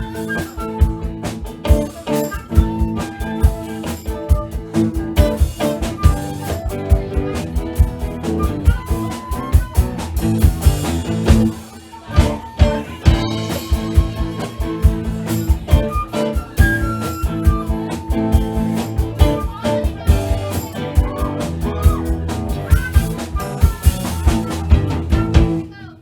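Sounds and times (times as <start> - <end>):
drum beat: 0.0 - 25.8
live band playing: 0.0 - 26.0.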